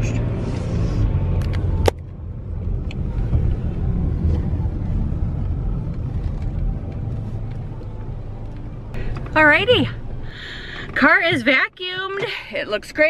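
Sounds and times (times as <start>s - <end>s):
car cabin engine and road drone: 0.0s - 13.0s.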